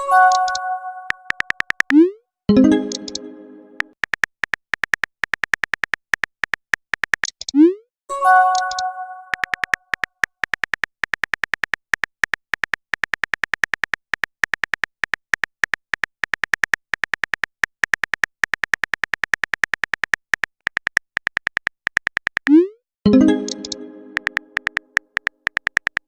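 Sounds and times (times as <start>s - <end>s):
keyboard typing clicks: 0.0s - 26.0s.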